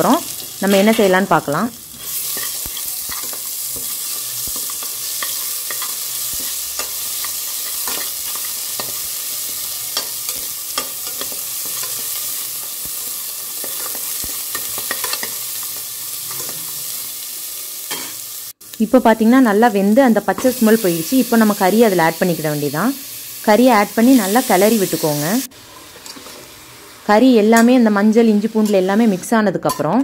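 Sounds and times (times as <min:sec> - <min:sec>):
paste sizzling in oil: 0:00.0 - 0:27.3.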